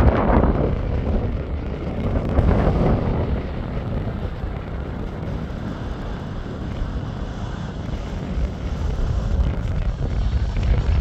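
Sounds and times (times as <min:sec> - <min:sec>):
jet engine rumbling: 0:00.0 - 0:11.0
wind on microphone: 0:00.0 - 0:11.0.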